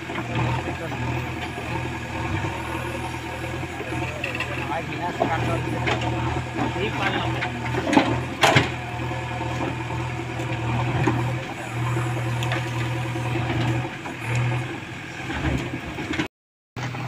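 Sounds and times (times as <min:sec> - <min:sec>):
backhoe digging in rocky ground: 0:00.0 - 0:17.0
diesel engine running: 0:00.0 - 0:17.0.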